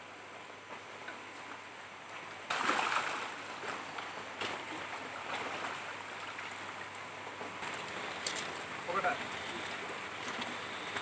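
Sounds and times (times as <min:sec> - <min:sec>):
water splashing and sloshing: 0:02.1 - 0:11.0.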